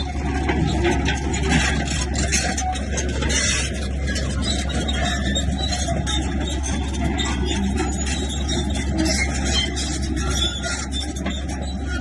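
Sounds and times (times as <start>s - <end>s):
low engine drone: 0.0s - 12.0s
machinery scraping and clattering: 0.0s - 12.0s.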